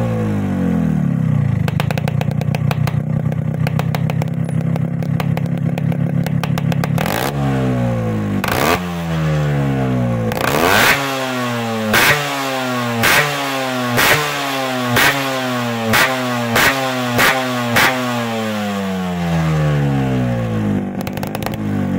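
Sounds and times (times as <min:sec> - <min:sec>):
two-stroke motorcycle revving: 0:00.0 - 0:21.9.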